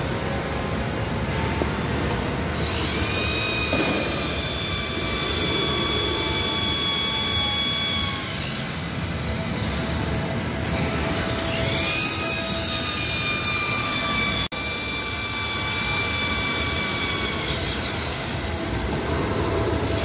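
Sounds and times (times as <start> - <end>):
cordless drill motor whining: 2.5 - 20.0.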